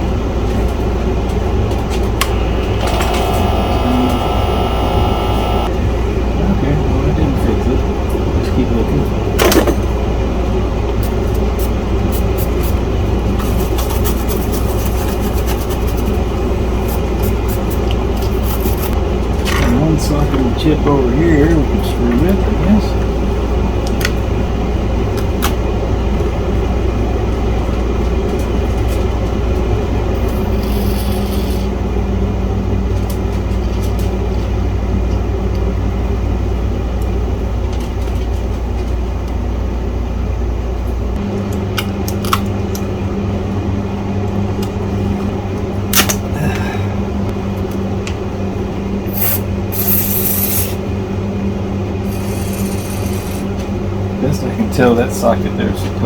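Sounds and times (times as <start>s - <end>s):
machine rumble with low hum: 0.0s - 50.2s.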